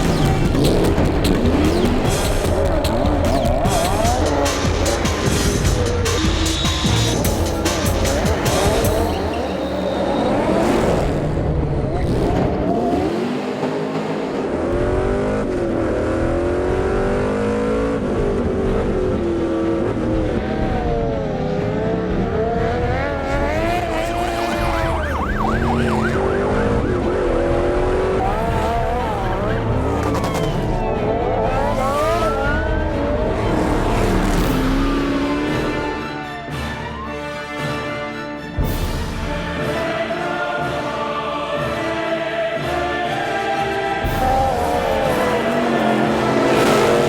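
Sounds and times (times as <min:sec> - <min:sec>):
engines revving hard: 0:00.0 - 0:36.8, 0:37.5 - 0:47.0.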